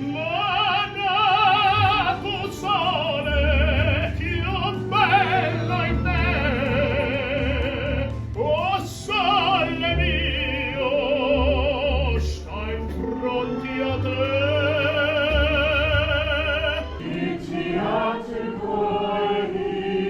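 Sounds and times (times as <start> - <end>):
operatic singing with vibrato: 0.0 - 20.0.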